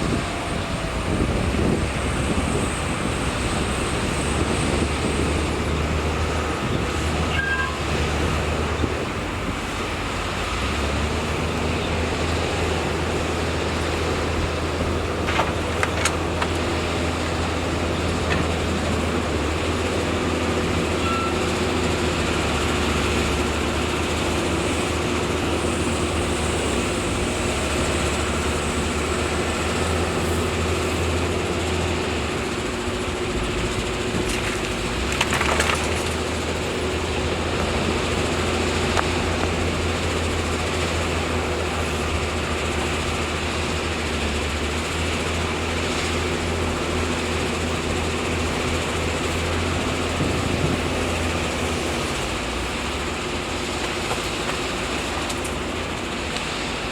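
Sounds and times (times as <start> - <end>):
heavy diesel machinery droning: 0.0 - 56.9.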